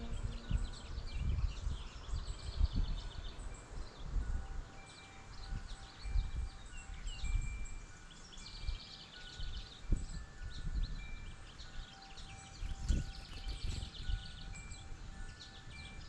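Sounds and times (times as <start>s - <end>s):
songbirds chirping and twittering: 0.0s - 16.0s
wind chime tones: 0.0s - 16.0s
wind rumble on microphone: 0.0s - 16.0s.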